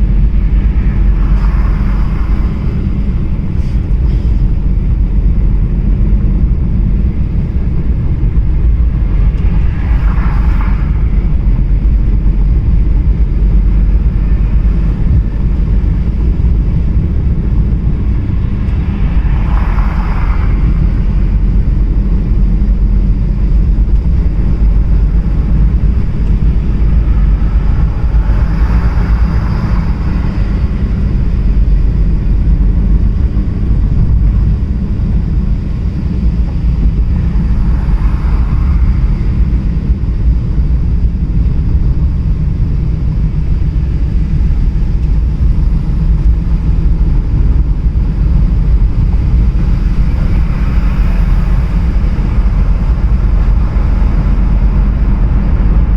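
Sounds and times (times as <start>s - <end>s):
car road and engine rumble: 0.0s - 55.9s.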